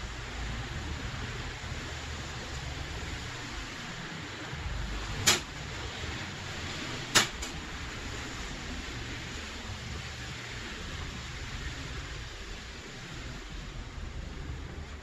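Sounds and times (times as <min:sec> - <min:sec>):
steady hiss of room noise: 0:00.0 - 0:15.0.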